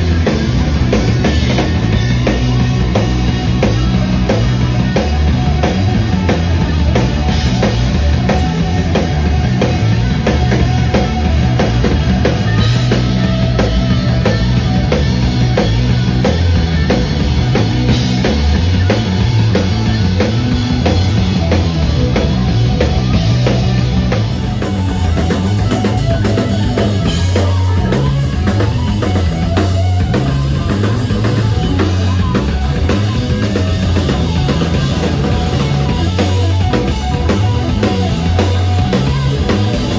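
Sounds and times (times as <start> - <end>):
electric guitar: 0.0 - 39.9
heavy bass drum: 0.0 - 39.9
live rock band playing: 0.0 - 39.9.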